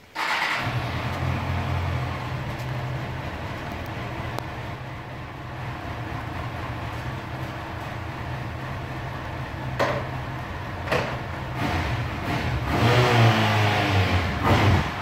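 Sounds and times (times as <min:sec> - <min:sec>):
motorcycle engine idling: 0:00.6 - 0:12.7.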